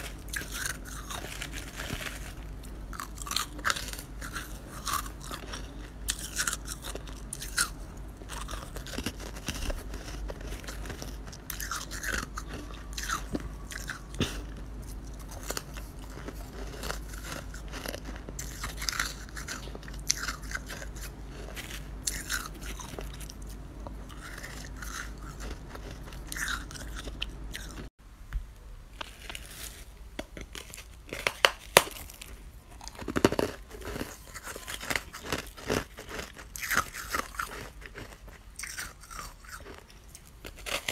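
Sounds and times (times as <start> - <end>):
crunching frost chewing: 0.0 - 27.9, 28.9 - 40.9
low steady hum: 0.0 - 40.9.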